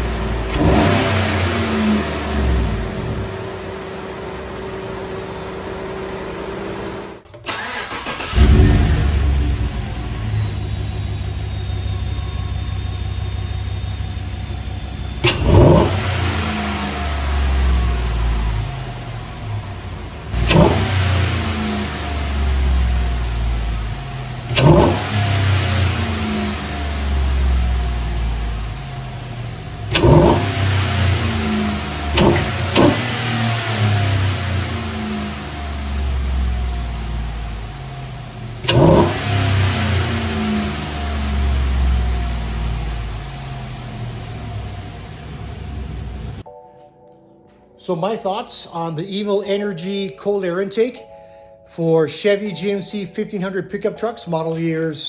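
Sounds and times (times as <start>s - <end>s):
car engine idling and revving: 0.0s - 46.5s.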